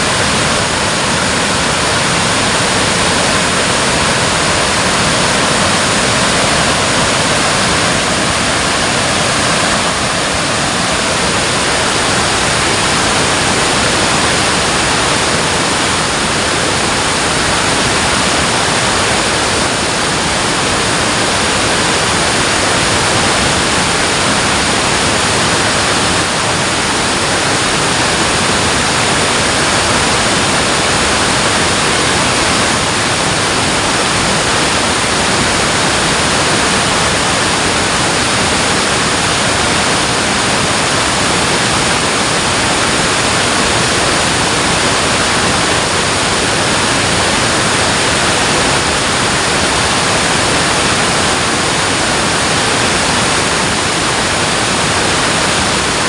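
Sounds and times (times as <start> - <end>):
water roaring over a dam: 0.0 - 56.0.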